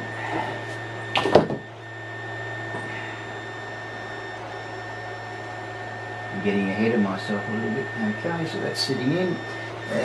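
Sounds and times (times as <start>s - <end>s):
printer fans humming: 0.0s - 10.0s.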